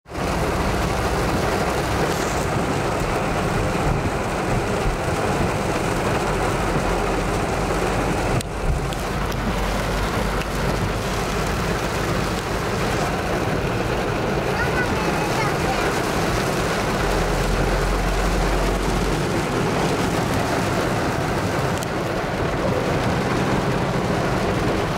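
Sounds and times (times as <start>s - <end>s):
car driving on wet road: 0.0s - 24.9s
heavy rain on car roof: 0.0s - 24.9s.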